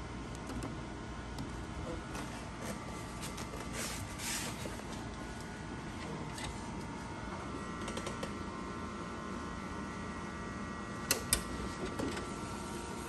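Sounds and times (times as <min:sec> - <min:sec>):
printer mechanical hum with whine: 0:00.0 - 0:13.0.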